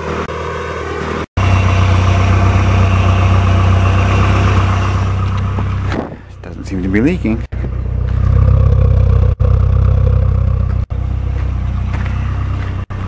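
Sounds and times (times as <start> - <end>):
car engine idling: 0.3 - 13.0.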